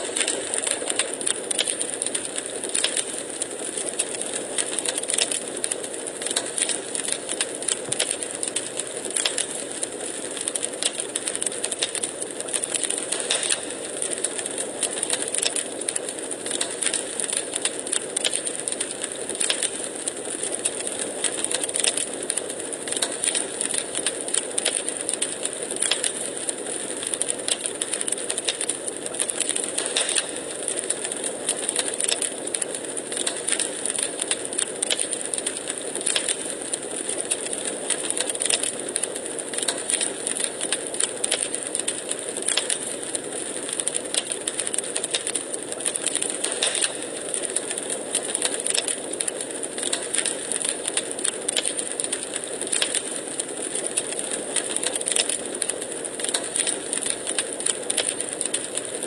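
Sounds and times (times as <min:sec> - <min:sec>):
logs crackling in fireplace: 0:00.0 - 0:59.0.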